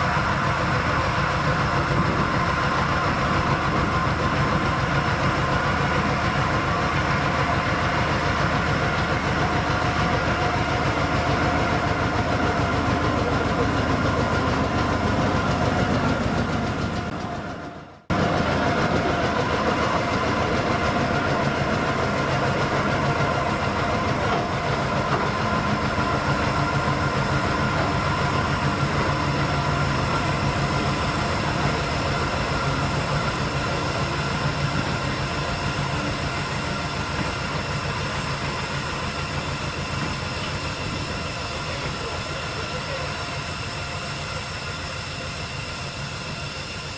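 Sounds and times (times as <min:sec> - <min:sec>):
locomotive diesel engine droning: 0:00.0 - 0:46.9.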